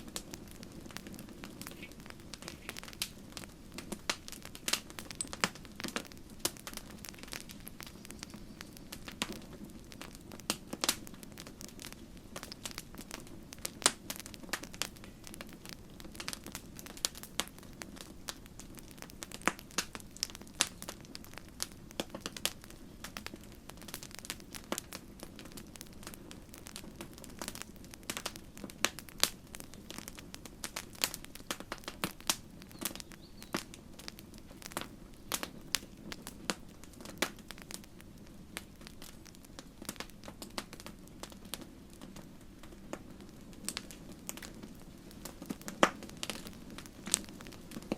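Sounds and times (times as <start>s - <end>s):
campfire pops and snaps: 0.0s - 47.9s
low rumble of burning: 0.0s - 47.9s.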